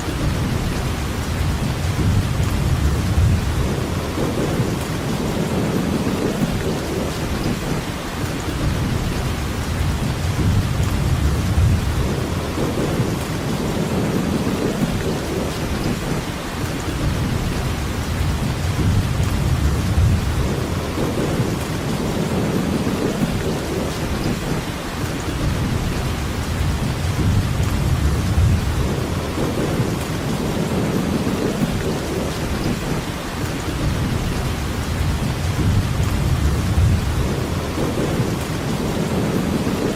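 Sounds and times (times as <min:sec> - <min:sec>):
heavy rainfall hiss: 0:00.0 - 0:39.9
low rumble: 0:00.1 - 0:07.2, 0:08.6 - 0:15.5, 0:17.0 - 0:23.9, 0:25.4 - 0:32.3, 0:33.8 - 0:39.6.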